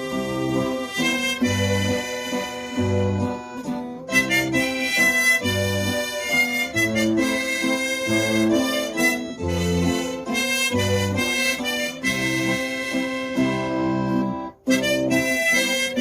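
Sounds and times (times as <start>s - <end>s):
guitar accompaniment: 0.0s - 16.0s
harmonica melody: 0.0s - 16.0s.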